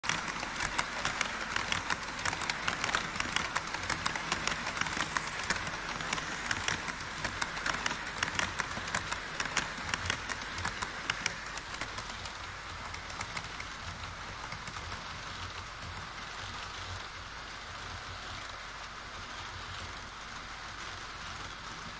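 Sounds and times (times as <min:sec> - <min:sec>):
model train running hiss: 0:00.0 - 0:21.9
model train wheels clicking on track: 0:00.0 - 0:21.9.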